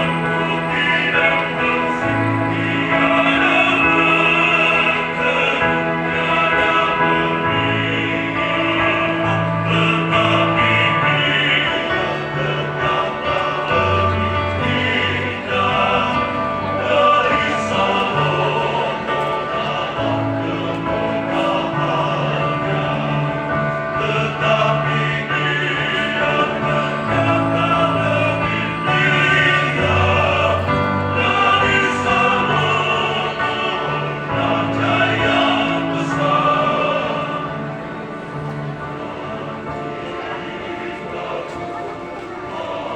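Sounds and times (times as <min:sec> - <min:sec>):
choir singing in parts: 0:00.0 - 0:42.9.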